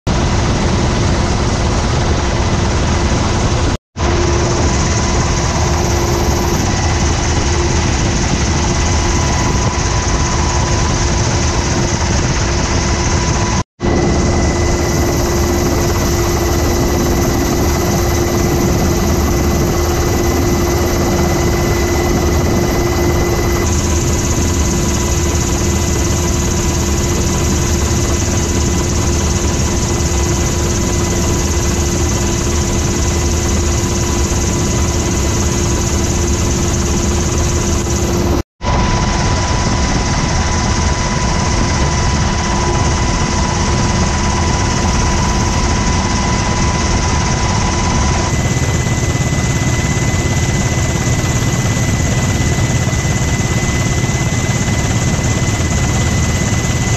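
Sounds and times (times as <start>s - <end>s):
helicopter cabin noise: 0.1s - 56.9s
steady high whine: 0.2s - 56.9s.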